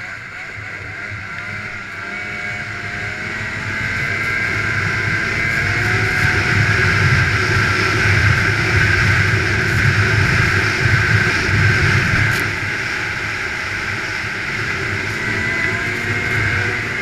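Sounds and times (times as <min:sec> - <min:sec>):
snowmobile engine whine: 0:00.0 - 0:17.0.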